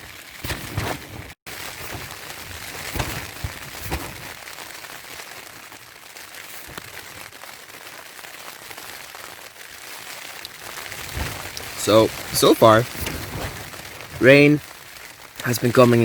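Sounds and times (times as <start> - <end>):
rain on a tarp: 0.0 - 16.0.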